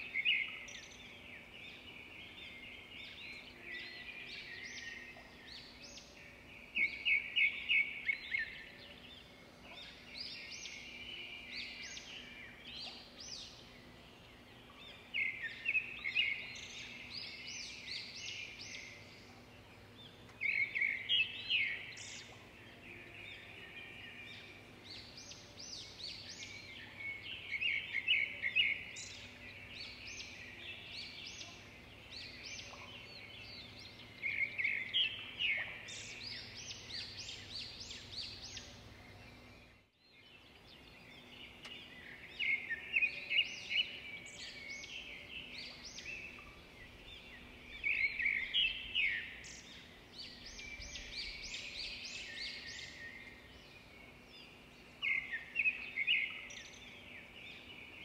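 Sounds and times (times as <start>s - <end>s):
faint steady hum: 0.0s - 58.0s
songbirds chirping: 0.0s - 58.0s.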